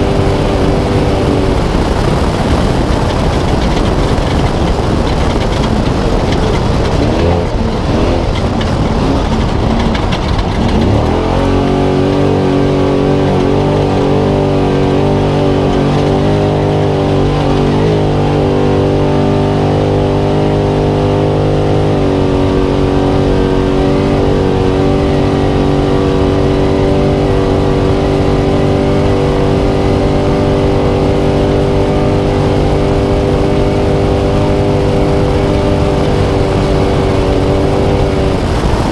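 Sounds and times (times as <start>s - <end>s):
drivetrain and terrain noise: 0.0s - 38.9s
truck engine revving: 0.0s - 38.9s.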